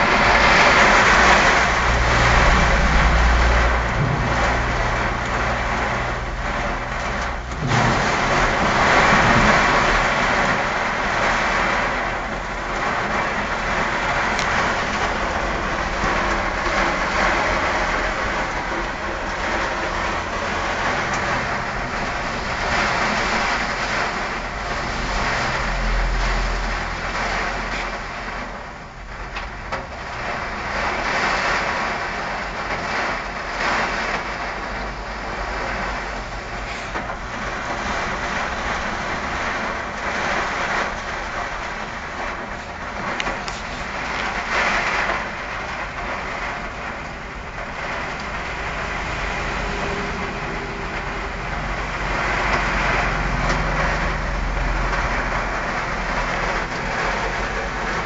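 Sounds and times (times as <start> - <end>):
engine drone: 0.0 - 29.1, 34.3 - 58.0
heavy rain pouring: 0.0 - 58.0
vehicles driving through water: 0.0 - 58.0.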